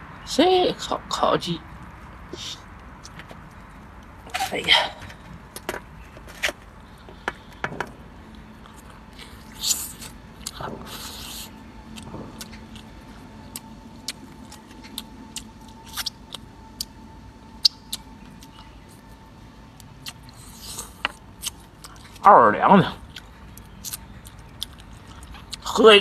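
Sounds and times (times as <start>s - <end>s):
person chewing: 1.8s - 5.6s, 6.4s - 17.0s, 17.6s - 22.3s, 22.9s - 25.7s.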